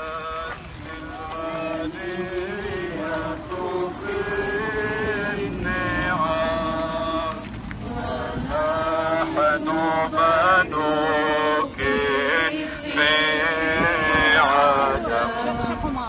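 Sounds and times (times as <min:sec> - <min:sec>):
voices singing a hymn in unison: 0:00.0 - 0:16.0.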